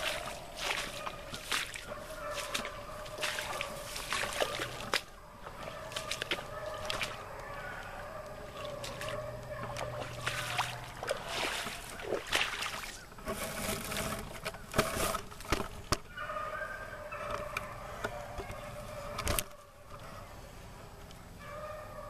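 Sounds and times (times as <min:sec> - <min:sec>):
footsteps crunching: 0:00.0 - 0:19.1
dry grass and brush rustling: 0:00.0 - 0:20.3.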